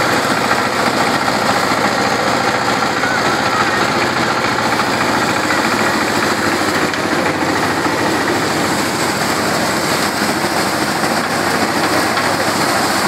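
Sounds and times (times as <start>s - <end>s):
drum thresher running: 0.0s - 13.0s.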